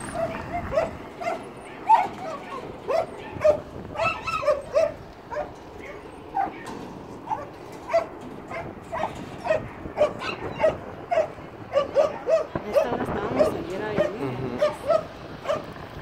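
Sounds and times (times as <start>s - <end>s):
dog barking and yipping: 0.0s - 15.8s.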